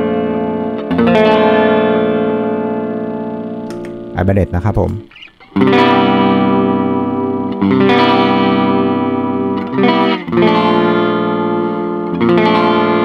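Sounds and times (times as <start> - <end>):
electric guitar chords with chorus: 0.0 - 13.0.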